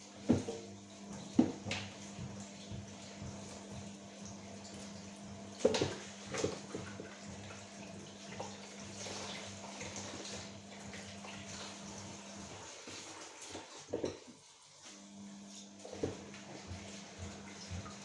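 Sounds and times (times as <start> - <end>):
water running from tap: 0.0 - 14.4, 15.7 - 18.0.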